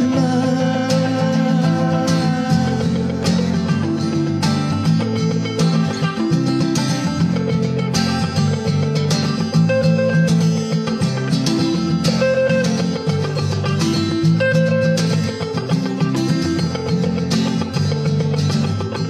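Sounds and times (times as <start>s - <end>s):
acoustic guitar strumming: 0.0s - 19.0s
electric guitar picking notes: 0.0s - 19.0s.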